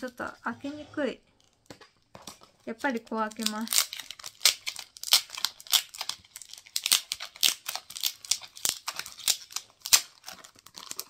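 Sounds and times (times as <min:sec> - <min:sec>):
plastic wrapping crackling: 0:01.3 - 0:11.0.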